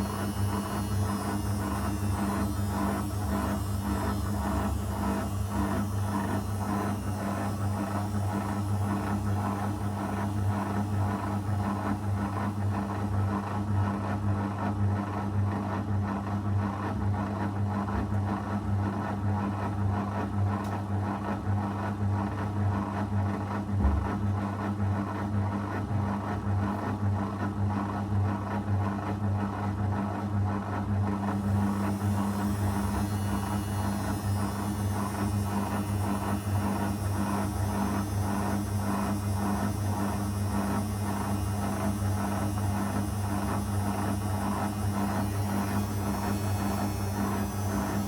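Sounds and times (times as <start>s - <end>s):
washing machine running: 0.0s - 48.0s.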